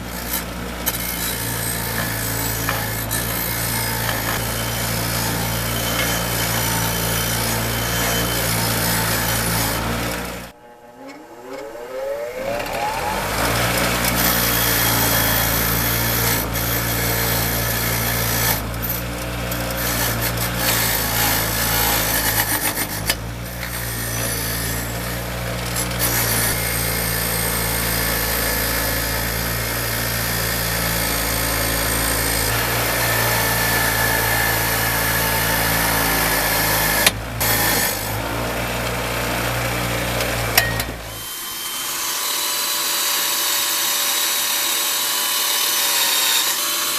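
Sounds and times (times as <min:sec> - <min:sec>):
power tool grinding: 0:00.0 - 0:46.9.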